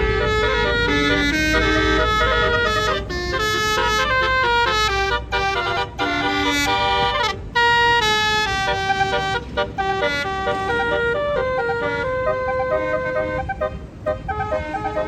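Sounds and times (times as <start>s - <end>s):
musical horn playing a melody: 0.0s - 15.0s.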